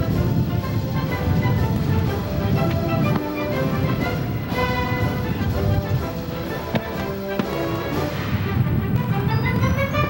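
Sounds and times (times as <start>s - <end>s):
music with held tones: 0.0s - 10.0s.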